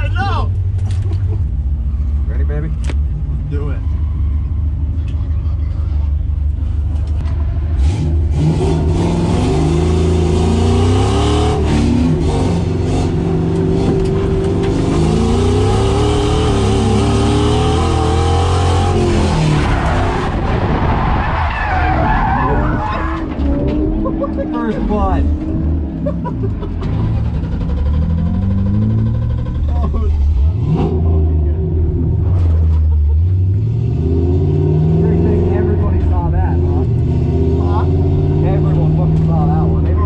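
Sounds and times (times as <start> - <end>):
tyres skidding: 0.0 - 40.0
car engine revving: 5.9 - 40.0.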